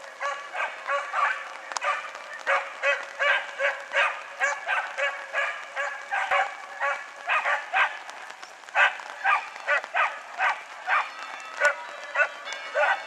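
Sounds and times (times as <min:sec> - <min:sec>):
hounds yelping: 0:00.0 - 0:13.0.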